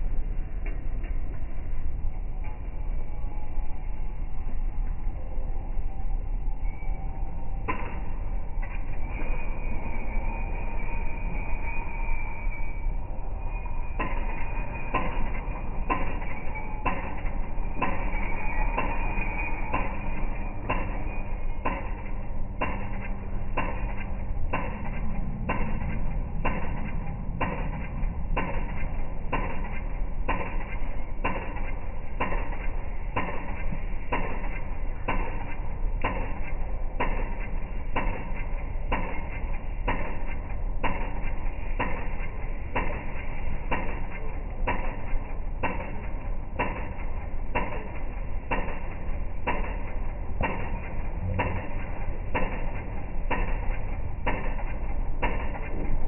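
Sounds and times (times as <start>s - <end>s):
low rumble of city traffic: 0.0s - 56.0s.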